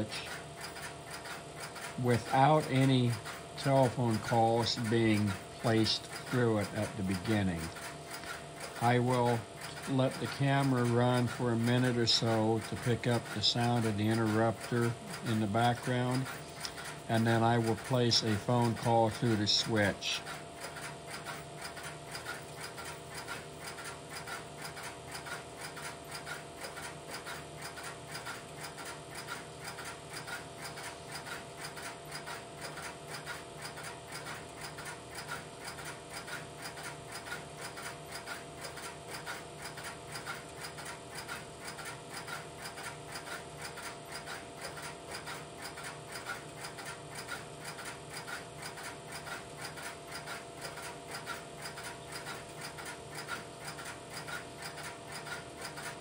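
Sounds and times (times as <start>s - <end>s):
relays clicking rapidly: 0.0s - 56.0s
steady hum: 0.0s - 56.0s.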